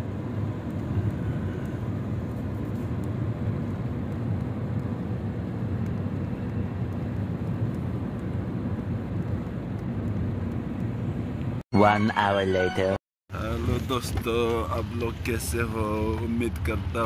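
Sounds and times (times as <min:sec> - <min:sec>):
car engine and road hum: 0:00.0 - 0:11.6, 0:13.3 - 0:17.0.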